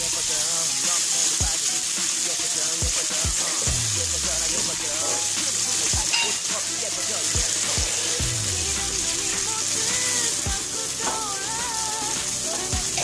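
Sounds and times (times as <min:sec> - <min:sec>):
background music with deep bass: 0:00.0 - 0:13.0
fish sizzling in oil: 0:00.0 - 0:13.0.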